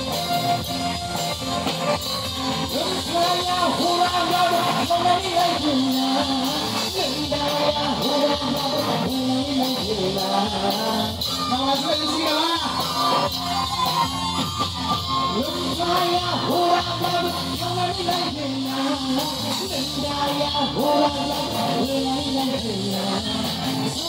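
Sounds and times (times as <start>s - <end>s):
live amplified band music: 0.0s - 24.0s
steady drum beat: 0.0s - 24.0s
man singing into microphone: 2.6s - 13.6s, 14.4s - 24.0s.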